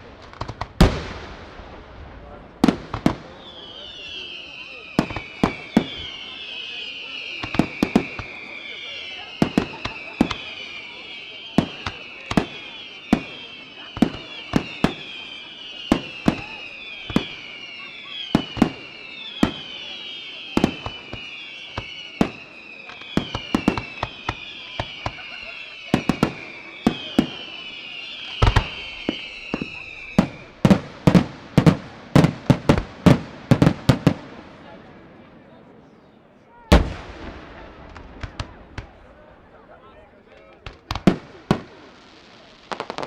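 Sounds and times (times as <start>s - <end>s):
fireworks bangs: 0.0s - 43.0s
fireworks whistles falling in pitch: 2.6s - 35.3s, 40.5s - 43.0s.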